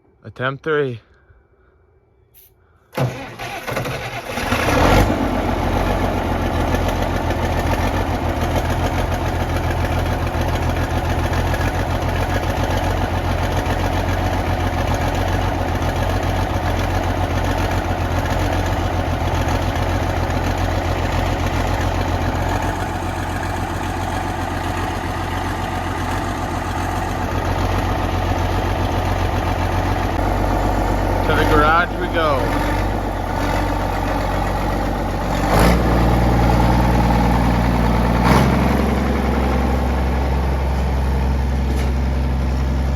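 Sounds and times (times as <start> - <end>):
tractor diesel engine idling: 3.0 - 42.9.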